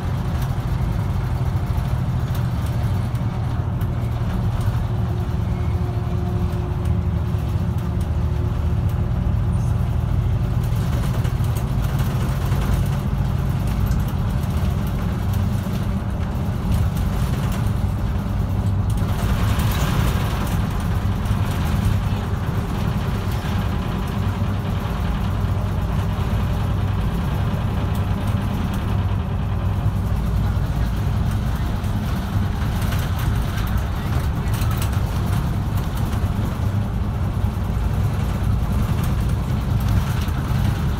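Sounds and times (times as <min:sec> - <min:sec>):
bus engine droning: 0:00.0 - 0:40.9.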